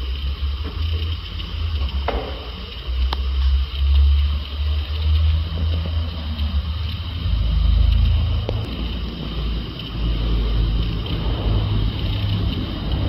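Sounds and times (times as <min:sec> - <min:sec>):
low uneven rumble: 0:00.0 - 0:13.0.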